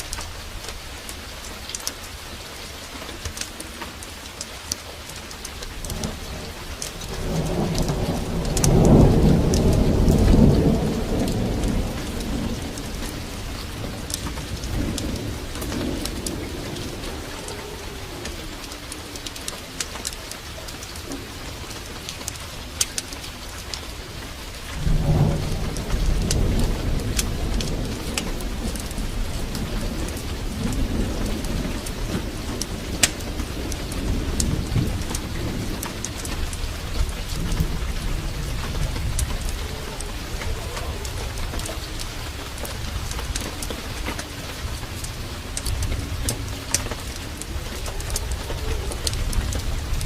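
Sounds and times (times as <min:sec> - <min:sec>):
heavy rain: 0:00.0 - 0:50.0
thunder rumbling: 0:05.2 - 0:50.0.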